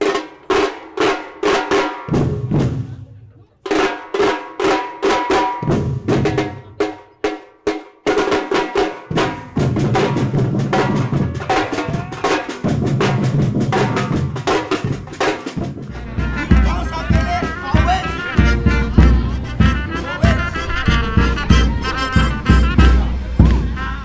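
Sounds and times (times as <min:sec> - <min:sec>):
percussion-heavy music: 0:00.0 - 0:24.0.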